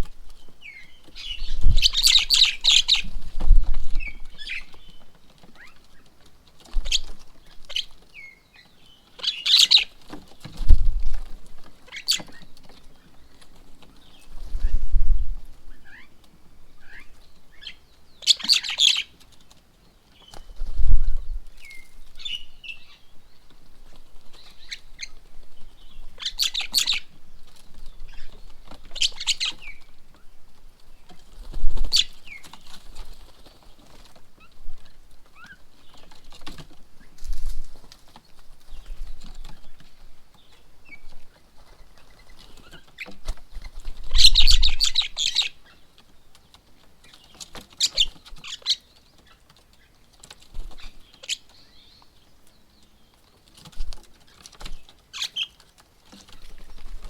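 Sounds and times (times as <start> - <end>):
birds chattering calls: 0.0 - 57.0.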